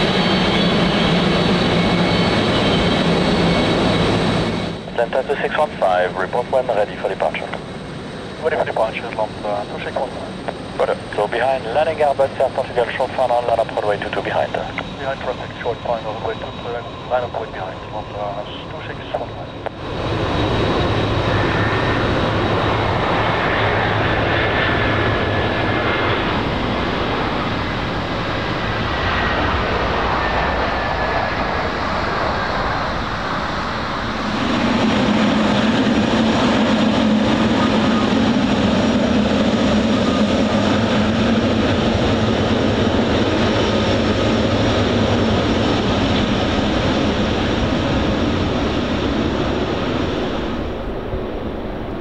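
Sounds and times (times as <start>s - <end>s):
jet engines rumbling at taxi: 0.0s - 52.0s.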